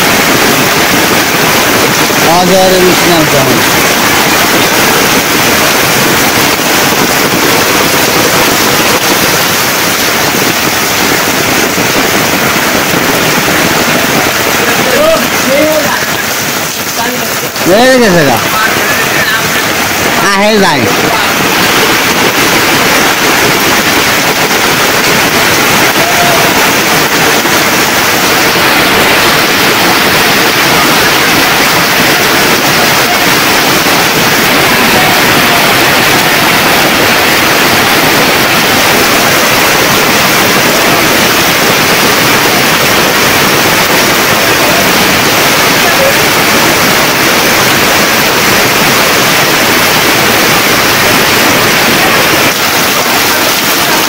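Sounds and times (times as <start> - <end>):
rain on tin roofs: 0.0 - 54.0
water pouring off eaves: 0.0 - 54.0.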